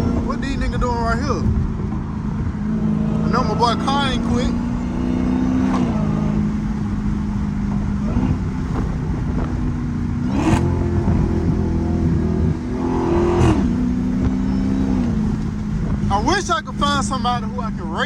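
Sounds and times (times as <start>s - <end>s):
car exhaust droning and revving: 0.0s - 18.0s.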